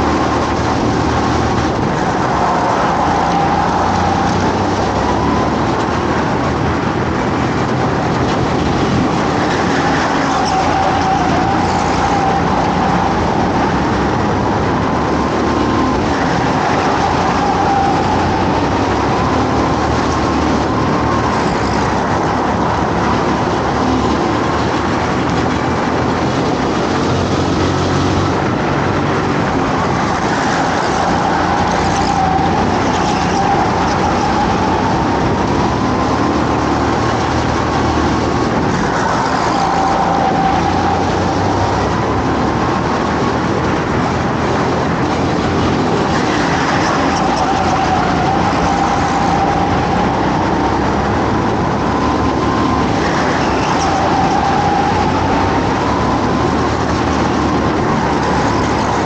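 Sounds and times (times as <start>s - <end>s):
go-kart engine racing: 0.0s - 59.0s.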